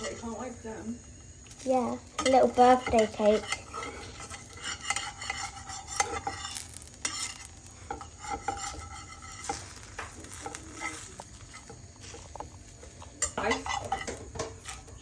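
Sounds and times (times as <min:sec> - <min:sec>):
pancakes sizzling in oil: 0:00.0 - 0:15.0
utensil scraping and tapping pan: 0:01.4 - 0:15.0.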